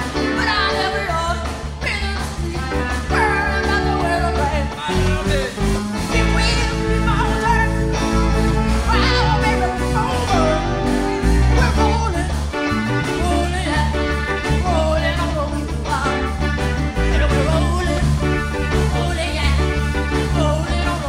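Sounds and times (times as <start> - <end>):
live rock band playing: 0.0 - 21.0
woman singing lead: 0.0 - 21.0.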